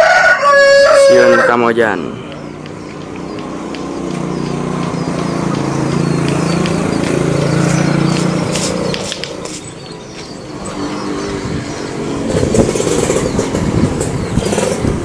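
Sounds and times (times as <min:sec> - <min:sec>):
vehicle engine passing by: 0:01.0 - 0:15.0.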